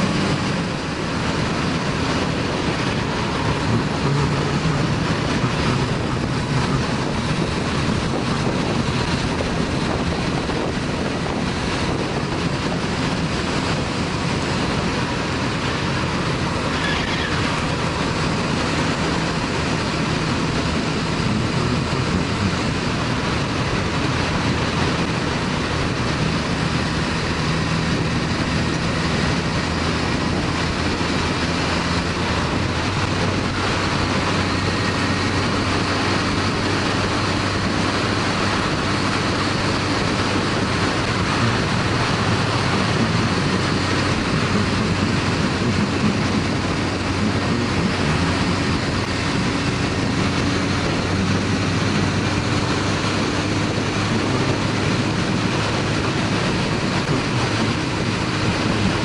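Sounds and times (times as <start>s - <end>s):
motorcycle engine drone: 0.0s - 59.0s
wind rushing over microphone: 0.0s - 59.0s.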